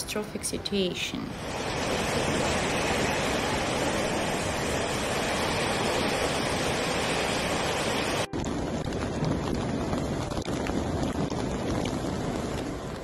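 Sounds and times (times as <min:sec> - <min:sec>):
floodwater rushing: 0:01.3 - 0:13.0.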